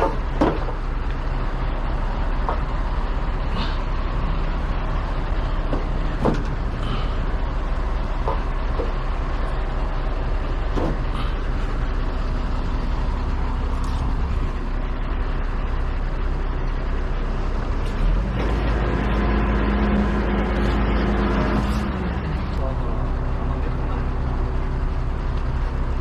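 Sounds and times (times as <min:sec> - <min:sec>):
heavy truck engine running: 0:00.0 - 0:26.0.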